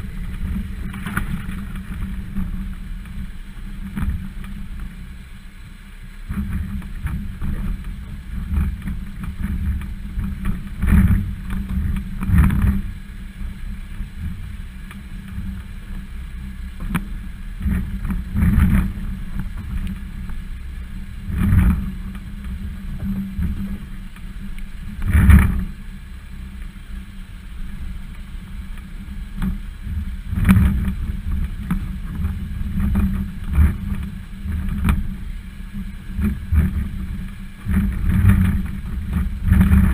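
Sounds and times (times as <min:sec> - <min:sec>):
wheels knocking over rocks: 0:00.0 - 0:05.1, 0:06.3 - 0:25.9, 0:27.7 - 0:39.9
vehicle engine low rumble: 0:00.0 - 0:39.9
wind on microphone: 0:00.0 - 0:39.9.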